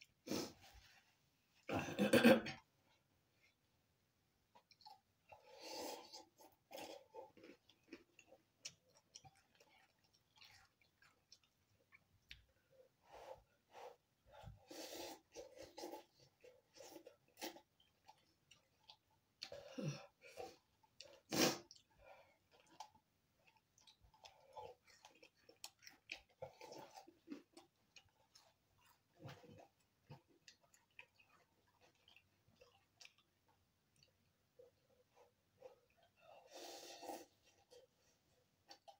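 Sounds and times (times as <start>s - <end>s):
person chewing and slurping noodles: 4.5s - 38.9s.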